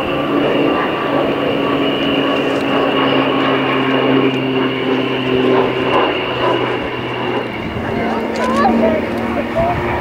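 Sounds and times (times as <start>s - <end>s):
aircraft engine roar: 0.0s - 10.0s.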